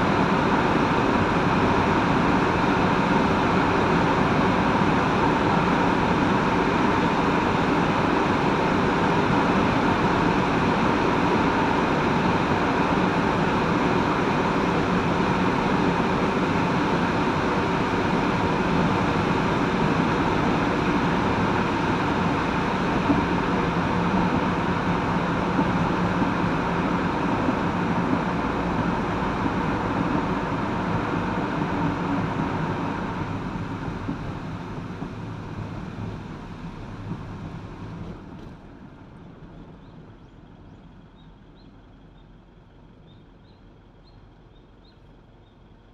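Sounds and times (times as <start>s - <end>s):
vehicle engine hum: 0.0s - 45.9s.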